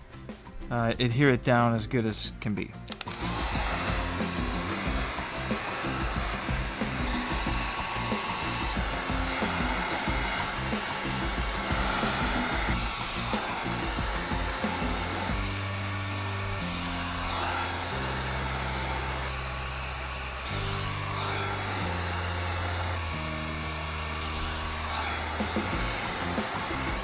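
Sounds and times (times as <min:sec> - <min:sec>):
heat gun blowing air: 0:02.9 - 0:27.0.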